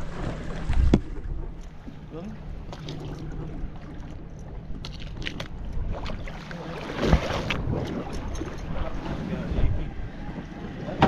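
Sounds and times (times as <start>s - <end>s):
water sloshing against boat: 0.0s - 11.0s.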